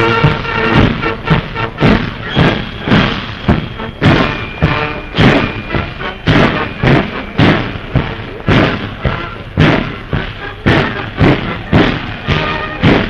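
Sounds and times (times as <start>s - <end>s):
faint band music: 0.0s - 13.0s
heavy marching thuds: 0.0s - 13.0s.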